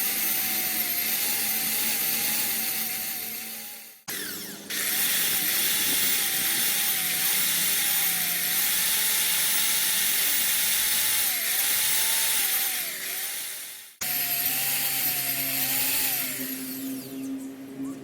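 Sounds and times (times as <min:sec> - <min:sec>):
electric drill lapping valve: 0:00.0 - 0:17.3.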